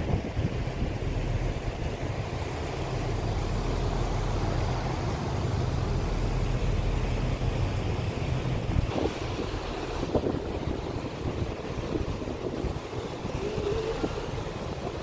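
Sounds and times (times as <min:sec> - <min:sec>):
boat engine humming: 0:00.0 - 0:15.0
steady rushing noise: 0:00.0 - 0:15.0.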